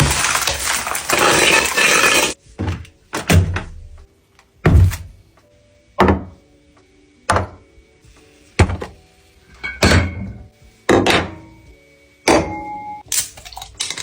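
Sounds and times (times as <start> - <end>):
faint background music: 2.3 - 14.0.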